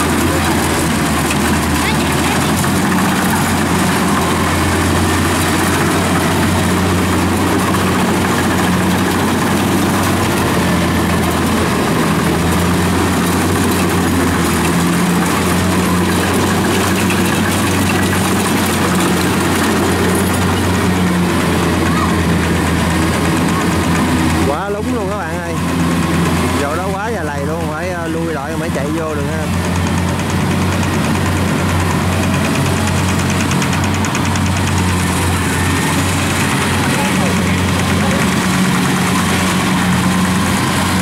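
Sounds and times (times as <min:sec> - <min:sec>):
combine harvester droning: 0:00.0 - 0:41.0.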